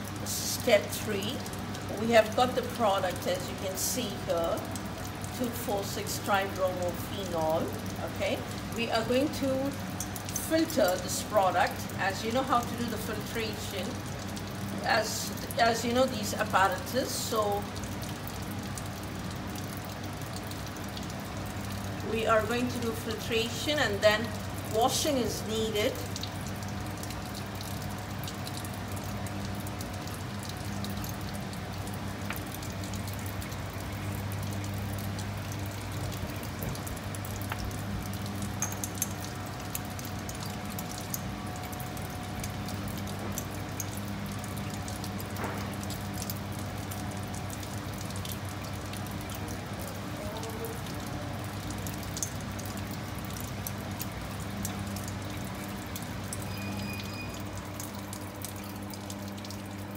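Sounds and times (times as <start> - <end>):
liquid pouring and dripping: 0.0 - 59.9.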